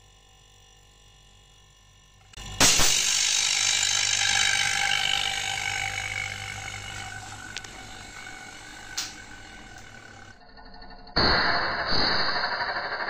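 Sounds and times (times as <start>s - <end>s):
low hum: 0.3s - 13.0s.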